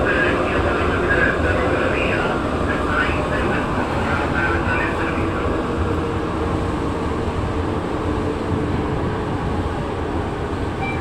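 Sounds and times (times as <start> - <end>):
metro train running: 0.0 - 11.0.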